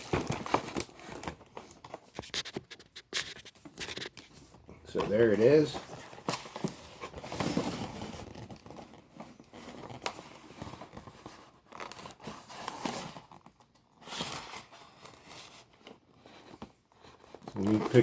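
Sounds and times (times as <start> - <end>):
packaging crinkling and tearing: 0.0 - 4.3, 5.0 - 16.0.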